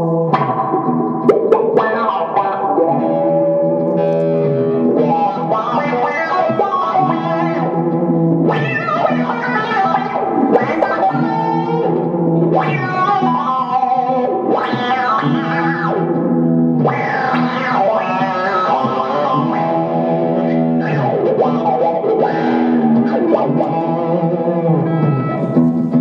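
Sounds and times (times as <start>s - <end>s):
synth-like electric guitar chords: 0.0s - 26.0s.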